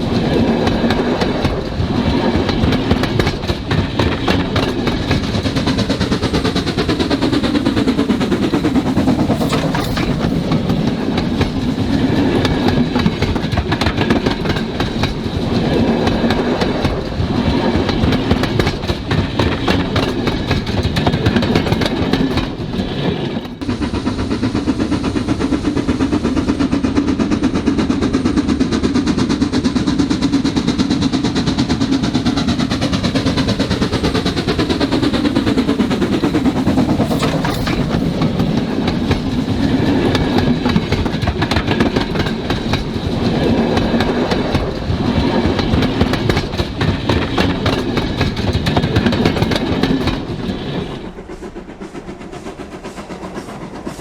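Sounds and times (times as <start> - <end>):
model train wheels clicking on rails: 0.0 - 54.0.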